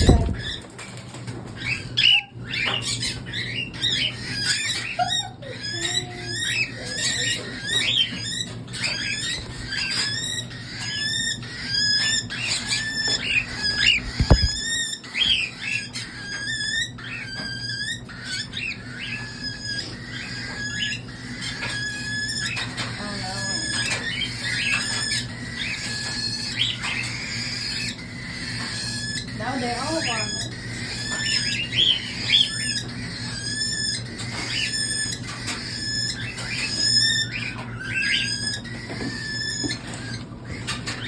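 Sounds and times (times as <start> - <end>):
chicks begging chirps: 0.0 - 41.0.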